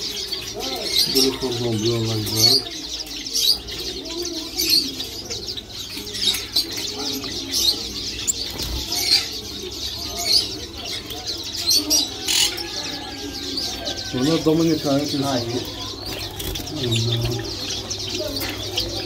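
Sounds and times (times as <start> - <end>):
finches chirping: 0.0 - 19.0.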